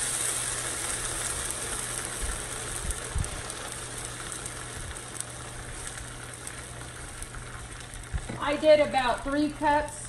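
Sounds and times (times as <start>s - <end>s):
water sizzling in hot skillet: 0.0s - 10.0s.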